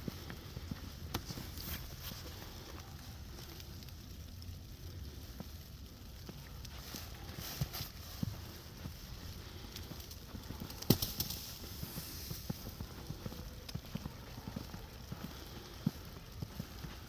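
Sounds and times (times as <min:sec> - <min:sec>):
footsteps crunching through snow: 0:00.0 - 0:03.6, 0:06.2 - 0:17.0.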